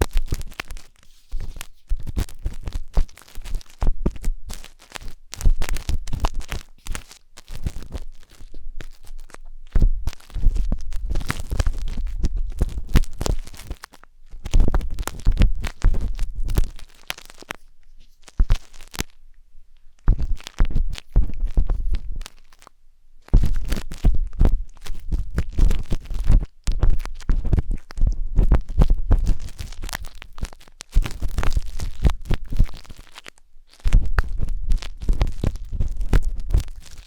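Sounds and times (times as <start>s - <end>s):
wooden skewer scratching microphone: 0.2s - 19.1s, 20.0s - 22.6s, 23.3s - 33.2s, 33.8s - 37.0s.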